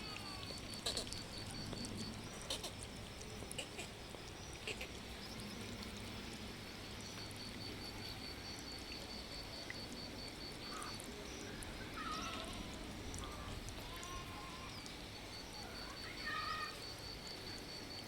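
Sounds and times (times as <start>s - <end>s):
insect calling in pulses: 0.0s - 18.0s
steady rain: 0.0s - 18.0s.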